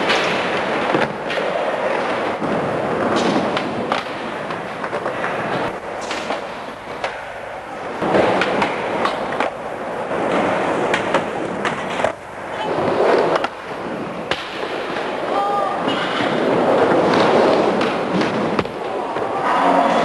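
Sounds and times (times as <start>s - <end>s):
skateboard clacking on ground: 0.0s - 19.5s
skateboard wheels rolling: 0.0s - 20.0s.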